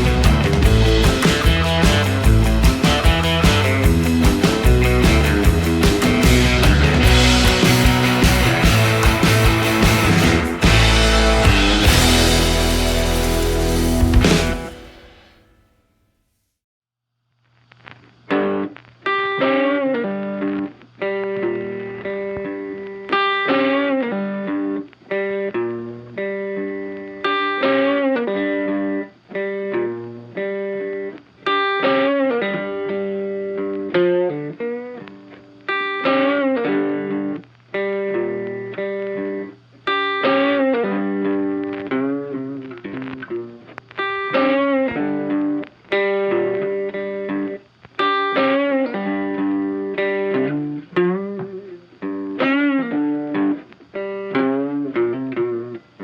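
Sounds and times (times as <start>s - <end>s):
funky electric guitar music: 0.0s - 15.4s, 17.8s - 56.0s.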